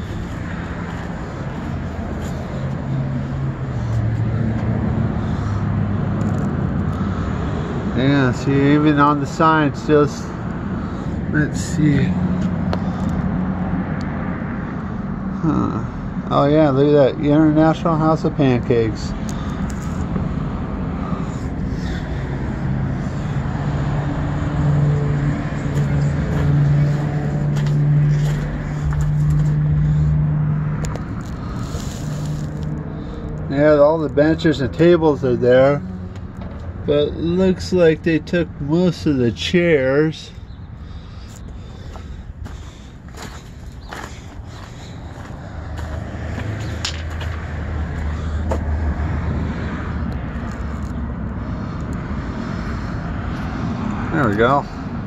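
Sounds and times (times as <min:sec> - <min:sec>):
vehicle engine running: 0:00.0 - 0:13.8, 0:17.6 - 0:37.9, 0:40.2 - 0:55.0
road traffic noise: 0:00.0 - 0:55.0.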